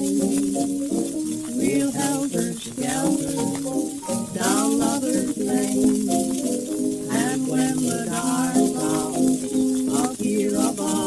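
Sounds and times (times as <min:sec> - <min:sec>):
male vocal duet with piano: 0:00.0 - 0:11.0
record surface hiss: 0:00.0 - 0:11.0.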